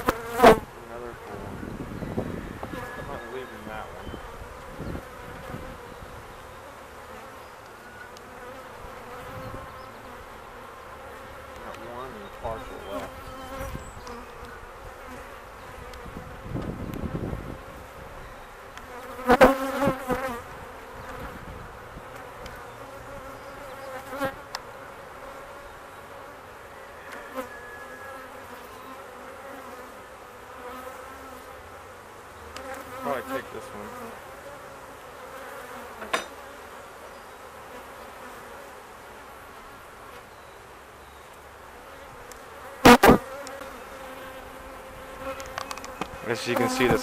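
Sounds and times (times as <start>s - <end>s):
bees buzzing: 0.0s - 47.0s.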